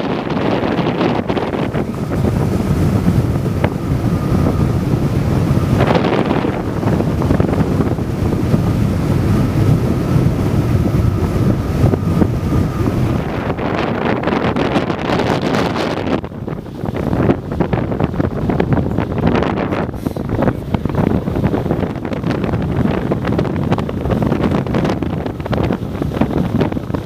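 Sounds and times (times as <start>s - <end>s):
strong wind on microphone: 0.0s - 27.0s.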